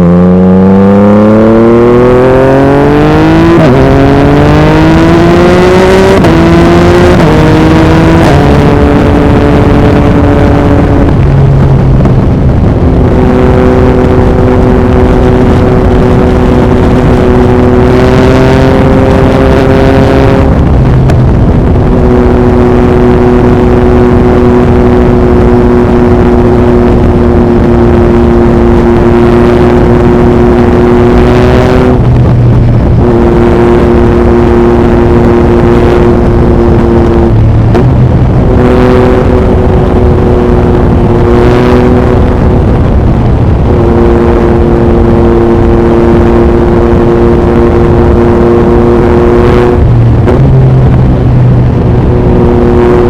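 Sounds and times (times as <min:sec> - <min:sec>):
motorcycle engine: 0:00.0 - 0:53.0
wind noise on microphone: 0:00.0 - 0:53.0.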